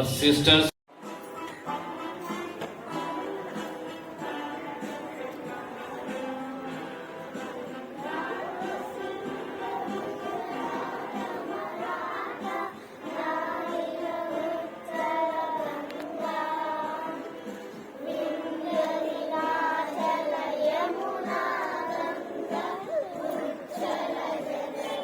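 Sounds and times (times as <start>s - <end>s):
children singing in chorus: 2.6s - 25.0s.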